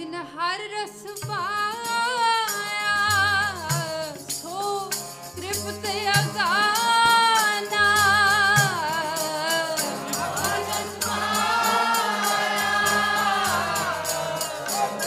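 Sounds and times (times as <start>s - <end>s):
woman singing a hymn: 0.0s - 14.2s.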